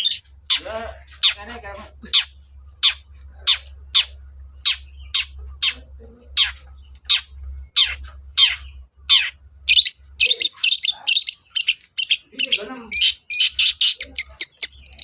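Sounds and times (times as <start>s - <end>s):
bird giving harsh scratchy calls: 0.0s - 5.8s, 6.4s - 15.0s.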